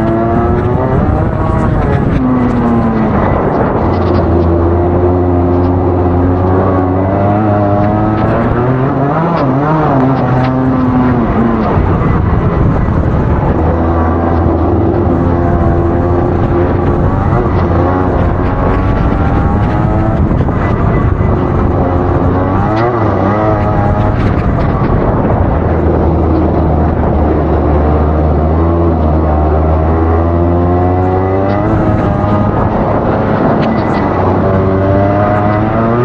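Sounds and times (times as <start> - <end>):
kart engine revving: 0.0 - 36.0.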